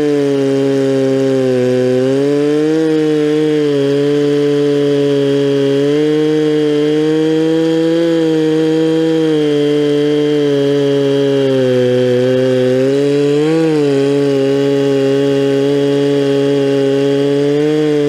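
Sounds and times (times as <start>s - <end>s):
chainsaw cutting through log: 0.0s - 18.0s.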